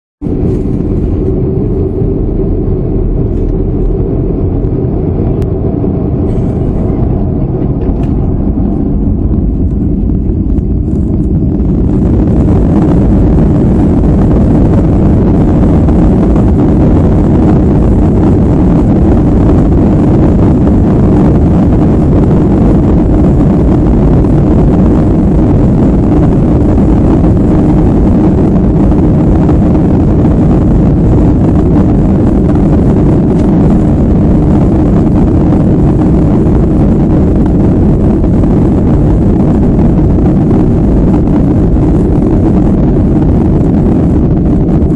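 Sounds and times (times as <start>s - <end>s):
jet engines rumbling: 0.2s - 44.9s
jet engines spooling up: 0.2s - 44.9s.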